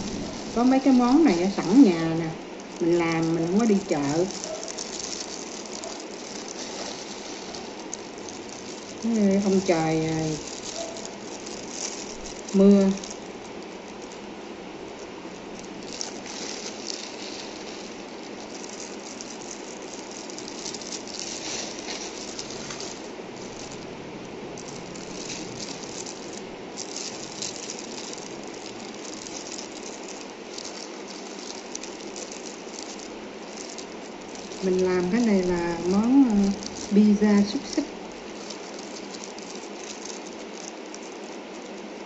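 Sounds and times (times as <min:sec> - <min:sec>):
irregular crackling: 0:00.0 - 0:42.0
steady rain falling: 0:00.0 - 0:42.0.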